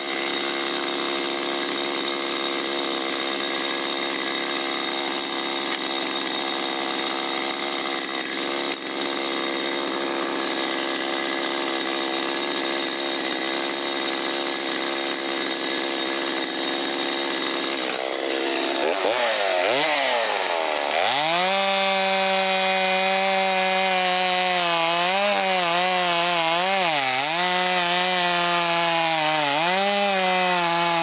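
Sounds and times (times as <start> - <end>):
chainsaw cutting log: 0.0 - 31.0.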